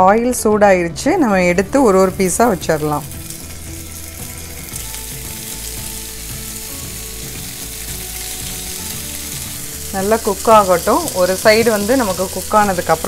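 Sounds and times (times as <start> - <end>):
fish sizzling in hot oil: 1.4 - 13.0.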